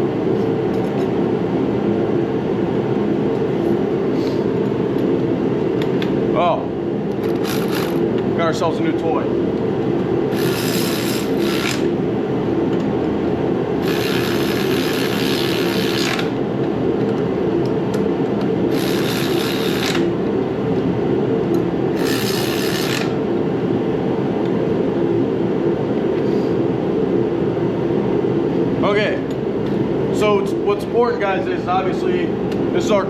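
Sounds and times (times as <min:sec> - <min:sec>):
heater humming: 0:00.0 - 0:33.0.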